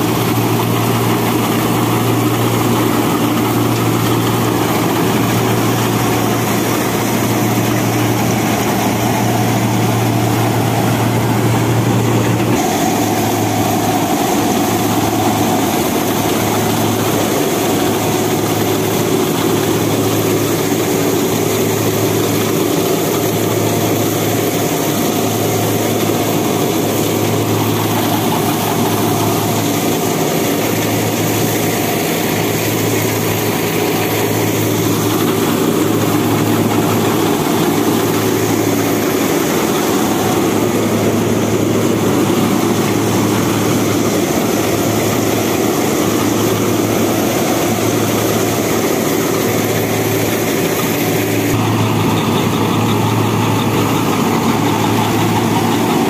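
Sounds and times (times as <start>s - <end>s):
tractor engine drone: 0.0s - 56.0s.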